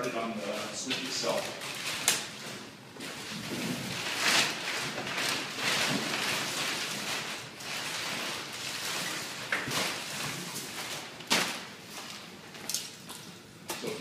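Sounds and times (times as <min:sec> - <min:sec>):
plastic bag rustling and crinkling: 0:00.2 - 0:13.2.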